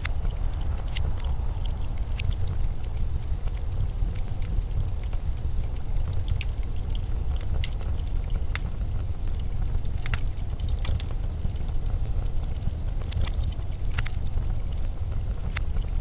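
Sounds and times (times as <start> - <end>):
blizzard wind rumble: 0.0 - 16.0
sharp crackles and ticks: 0.0 - 16.0.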